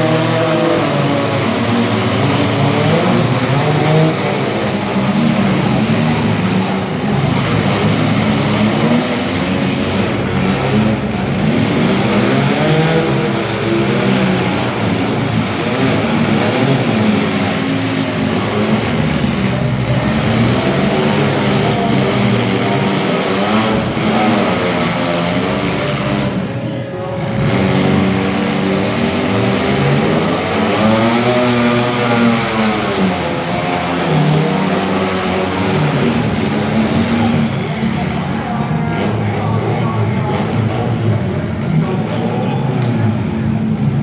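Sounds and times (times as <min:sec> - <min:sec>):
car engines revving: 0:00.0 - 0:44.0.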